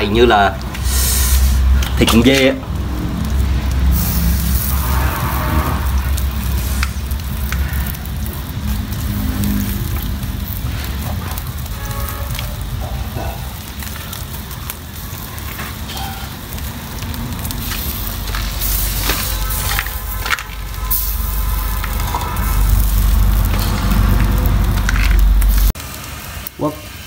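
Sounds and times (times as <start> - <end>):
low rumble: 0.0 - 26.3
wood fire crackling: 0.0 - 27.0.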